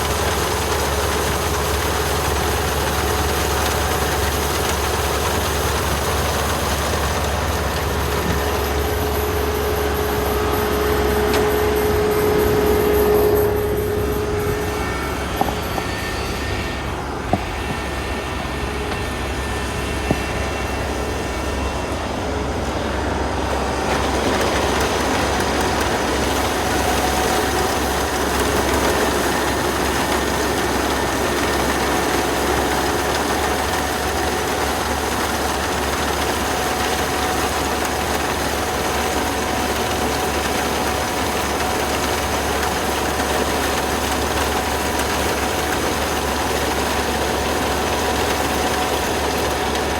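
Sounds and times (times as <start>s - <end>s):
combine harvester droning: 0.0s - 49.9s.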